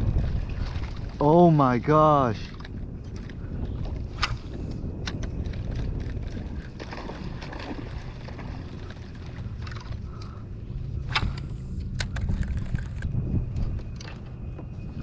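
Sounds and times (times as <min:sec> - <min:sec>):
water moving around a kayak: 0:00.0 - 0:15.0
wind buffeting microphone: 0:00.0 - 0:15.0.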